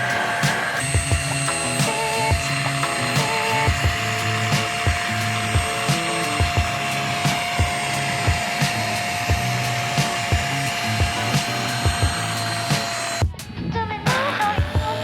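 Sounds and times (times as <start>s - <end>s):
handheld vacuum cleaner running: 0.0s - 13.4s, 14.1s - 15.0s
background music with steady beat: 0.0s - 15.0s.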